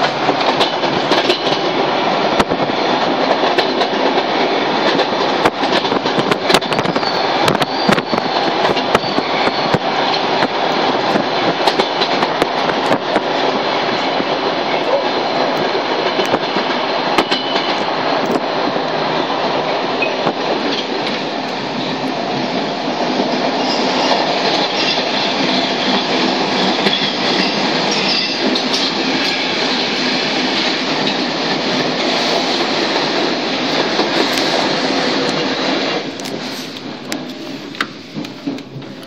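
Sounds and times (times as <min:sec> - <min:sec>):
subway wheels rumbling on rails: 0:00.0 - 0:39.0.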